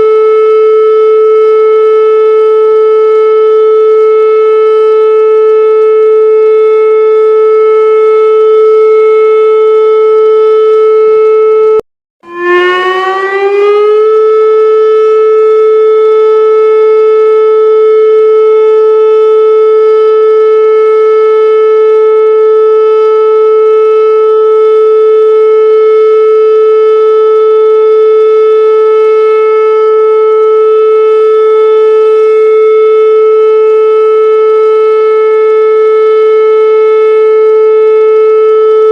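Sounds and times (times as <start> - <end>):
emergency warning siren: 0.0 - 38.9.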